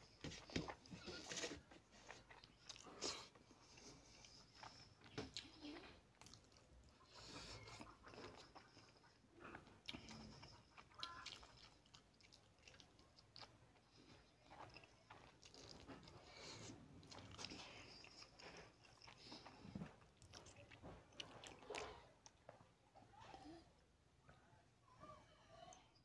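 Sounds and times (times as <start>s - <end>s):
person chewing food: 0.0s - 22.8s.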